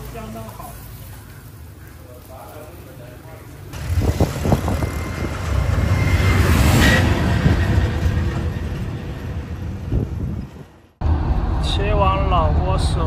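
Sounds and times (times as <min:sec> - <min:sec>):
vehicle rumble on unpaved road: 0:00.0 - 0:13.0.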